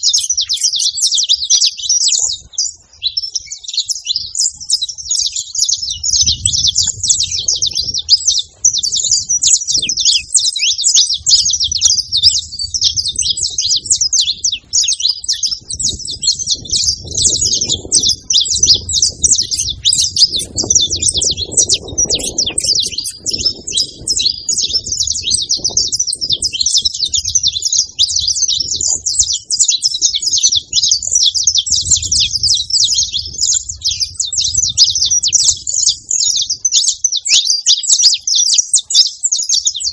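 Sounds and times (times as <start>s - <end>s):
finch chirps and trills: 0.0s - 39.9s.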